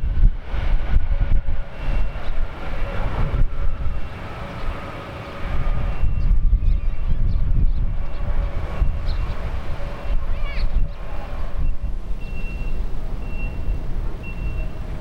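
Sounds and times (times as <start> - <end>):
jet engine whine: 0.0 - 15.0
wind buffeting microphone: 0.0 - 15.0.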